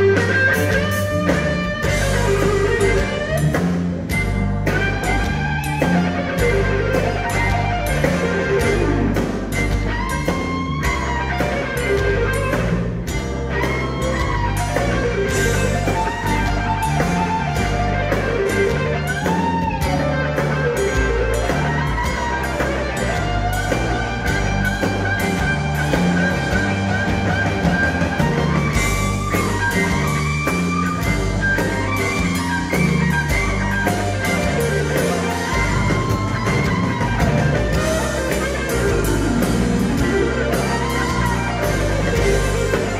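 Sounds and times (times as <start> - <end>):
bass guitar: 0.0 - 42.9
drums: 0.0 - 42.9
electric guitar solo: 0.0 - 42.9.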